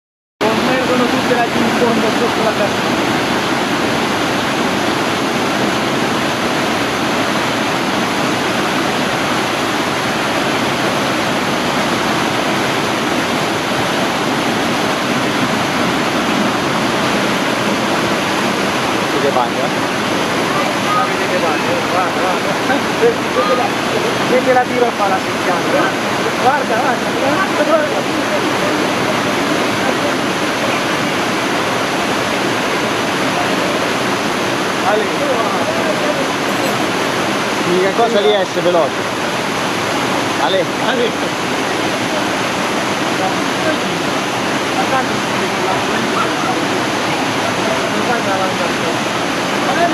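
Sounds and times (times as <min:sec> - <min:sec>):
waterfall rushing: 0:00.4 - 0:49.9.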